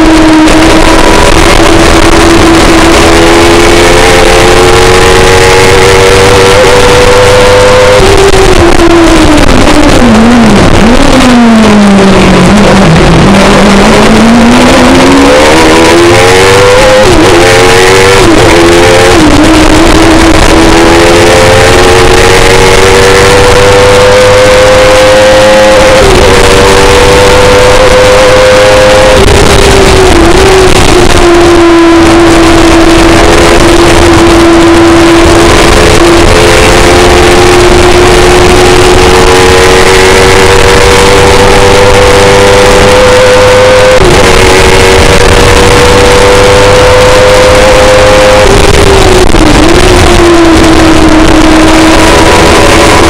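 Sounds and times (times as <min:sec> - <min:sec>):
racing engine revving: 0:00.0 - 0:53.0
wind and road noise: 0:00.0 - 0:53.0.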